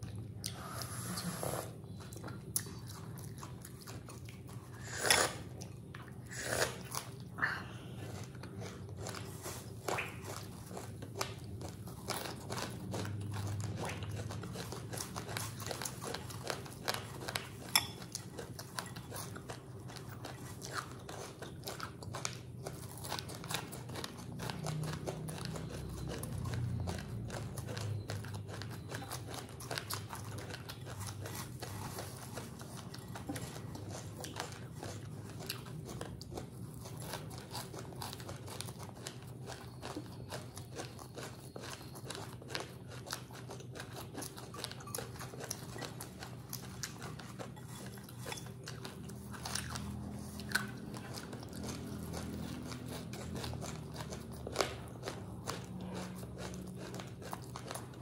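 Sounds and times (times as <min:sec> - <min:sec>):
chewing crunchy puffed rice: 0:00.0 - 0:58.0.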